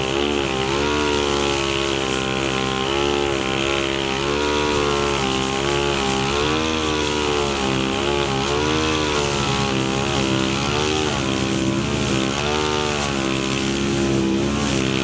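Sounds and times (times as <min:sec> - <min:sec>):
brush cutter engine running: 0:00.0 - 0:15.0.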